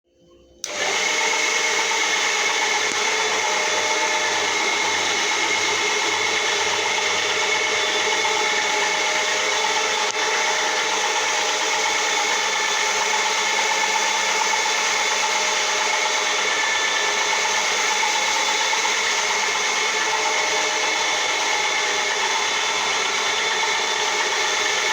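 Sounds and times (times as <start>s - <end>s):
floor polisher running: 0.6s - 24.9s.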